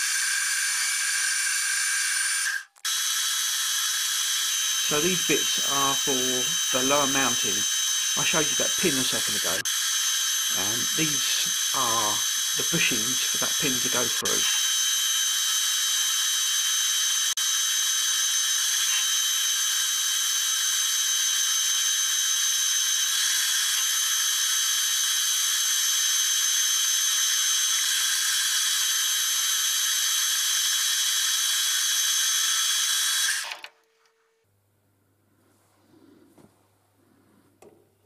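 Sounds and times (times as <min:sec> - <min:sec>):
metal lathe whining: 0:00.0 - 0:33.7.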